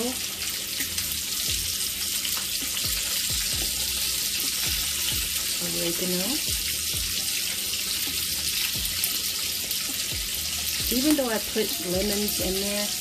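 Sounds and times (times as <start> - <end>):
pot of broth hissing: 0.0 - 13.0.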